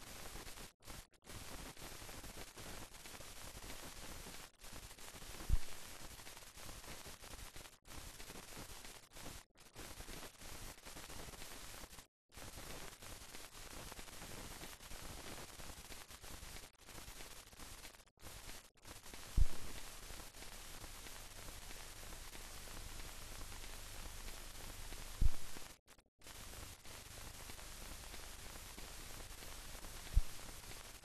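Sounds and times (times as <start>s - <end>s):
film soundtrack static hiss: 0.0s - 31.0s.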